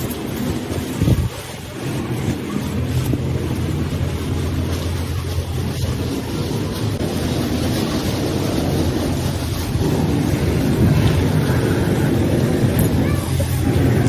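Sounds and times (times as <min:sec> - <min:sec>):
construction machinery rumbling: 0:00.0 - 0:14.0
wind buffeting microphone: 0:00.0 - 0:14.0.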